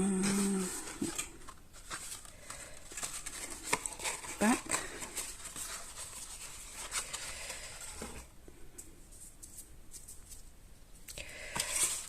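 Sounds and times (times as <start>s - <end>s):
rustling of cardstock: 0.2s - 10.5s, 11.5s - 12.0s.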